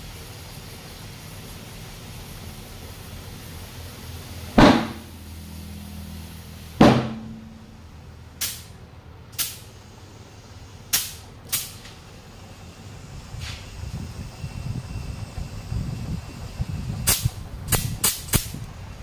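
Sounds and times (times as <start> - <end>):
air bursts from tyre inflator: 0.0 - 19.0
puffs of air: 0.0 - 19.0.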